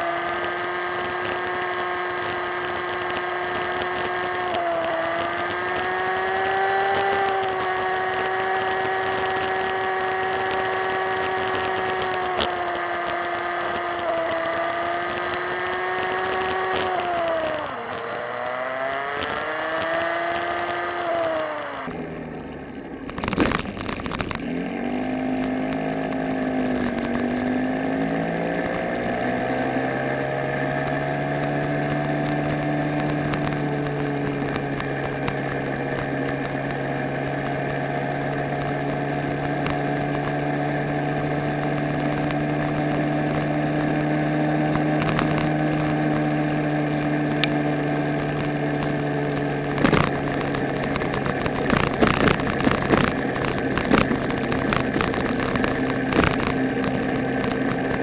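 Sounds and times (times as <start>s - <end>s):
road and wind noise: 0.0s - 58.0s
small motorcycle engine: 0.0s - 58.0s.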